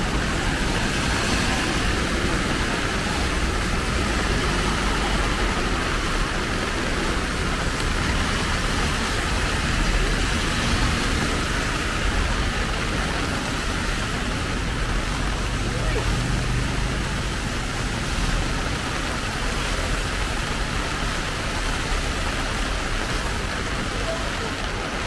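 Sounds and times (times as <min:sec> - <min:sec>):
heavy rain on umbrella: 0:00.0 - 0:25.0.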